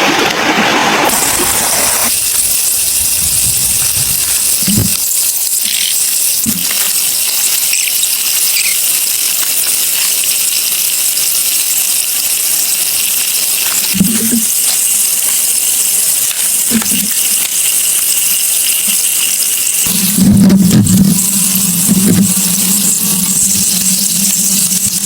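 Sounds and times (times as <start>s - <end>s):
stream water running: 0.0s - 25.0s.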